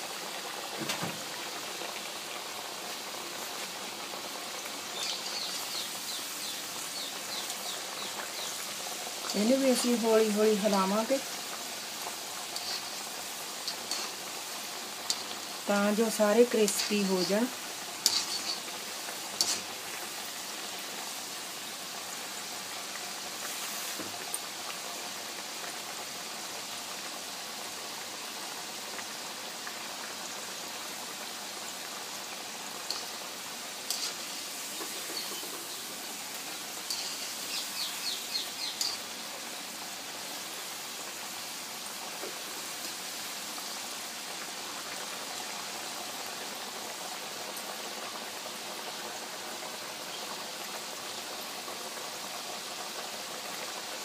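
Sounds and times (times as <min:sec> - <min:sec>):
fries sizzling in hot oil: 0:00.0 - 0:54.0.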